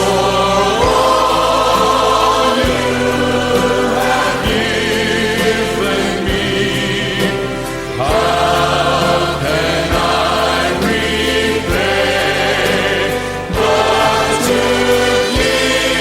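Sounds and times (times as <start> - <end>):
band with bass and drums: 0.0 - 16.0
group singing gospel song: 0.0 - 16.0.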